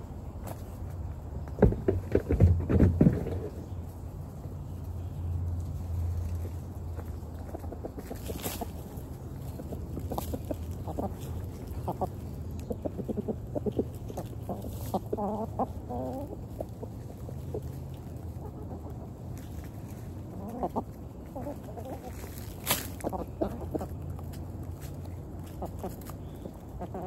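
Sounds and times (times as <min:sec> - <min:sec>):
hens clucking: 0:00.0 - 0:27.0.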